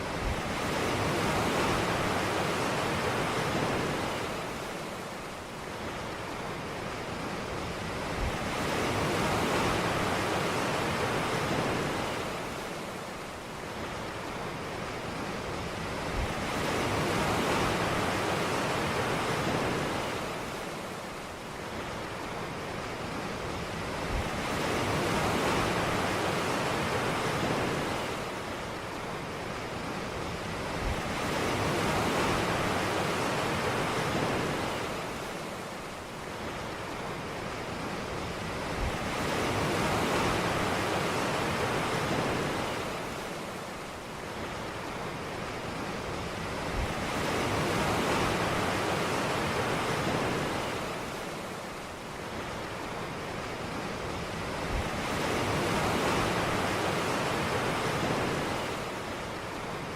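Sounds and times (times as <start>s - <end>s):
ocean waves washing on beach: 0.0s - 59.9s.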